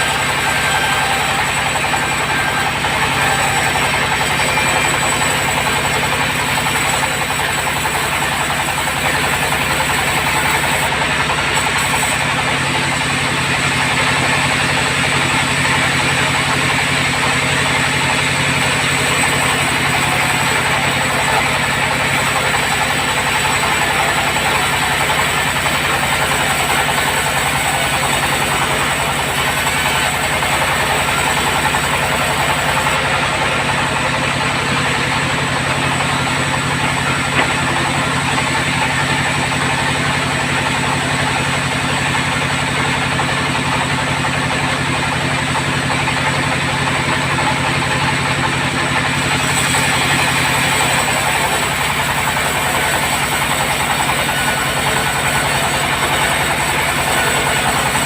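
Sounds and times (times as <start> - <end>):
bandsaw running: 0.0 - 58.0.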